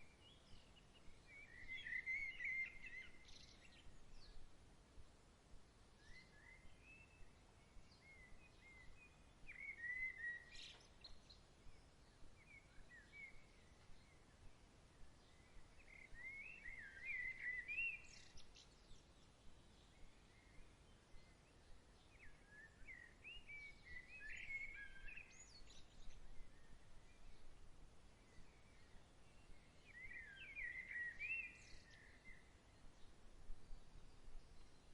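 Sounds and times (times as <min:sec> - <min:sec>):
soft low background hiss: 0:00.0 - 0:34.9
songbirds chirping: 0:00.0 - 0:34.9.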